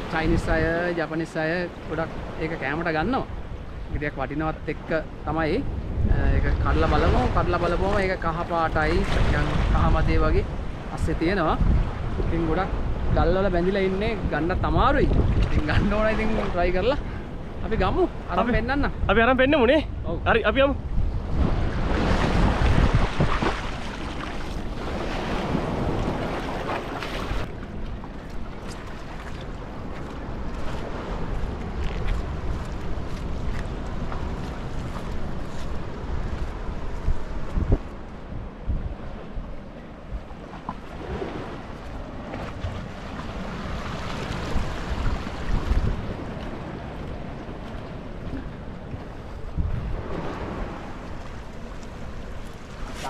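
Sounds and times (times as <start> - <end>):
small waves washing on sand: 0.0 - 18.6, 21.0 - 53.0
wind rumbling on microphone: 0.0 - 53.0.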